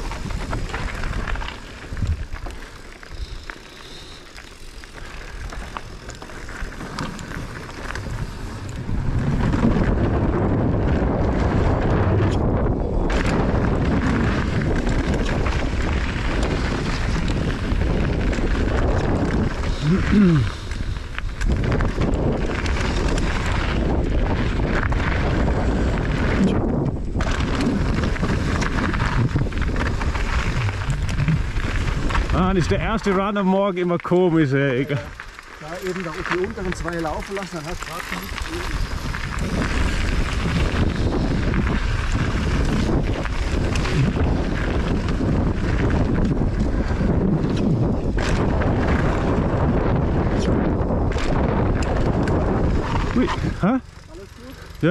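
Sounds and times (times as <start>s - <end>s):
bike knocking and rattling: 0.0s - 54.9s
tyre noise on dirt: 0.0s - 54.9s
wind buffeting microphone: 0.0s - 54.9s.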